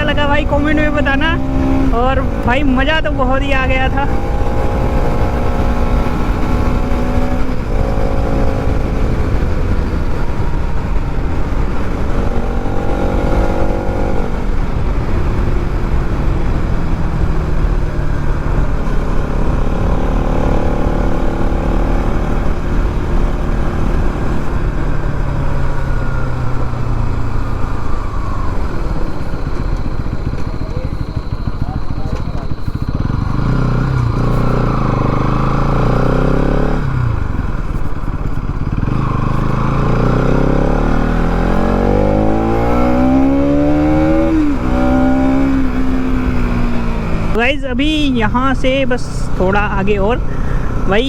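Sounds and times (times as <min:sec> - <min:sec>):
wind rumble on microphone: 0:00.0 - 0:50.9
motorcycle engine and exhaust: 0:00.0 - 0:51.0.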